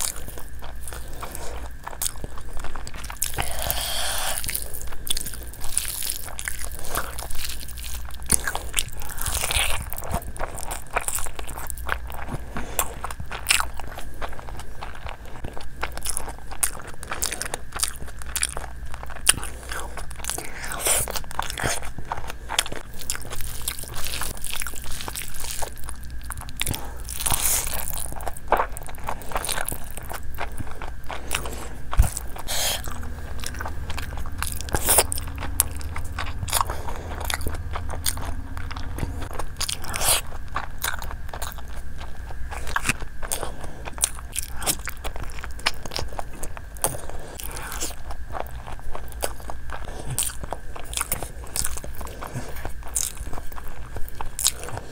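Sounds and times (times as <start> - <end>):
person chewing and crunching: 0.0 - 54.9.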